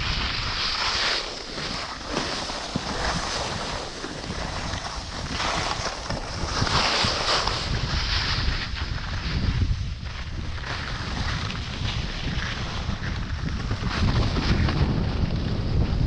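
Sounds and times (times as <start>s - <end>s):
skis scraping over snow: 0.0s - 16.0s
wind buffeting microphone: 0.0s - 16.0s.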